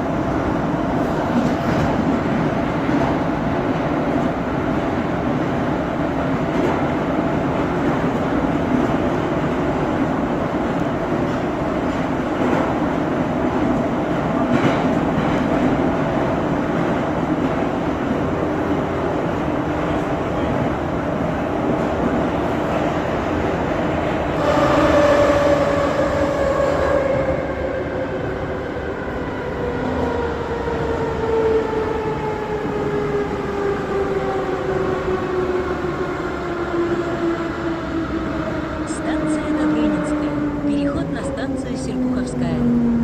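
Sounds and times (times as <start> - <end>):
subway train rumbling in tunnel: 0.0 - 43.0.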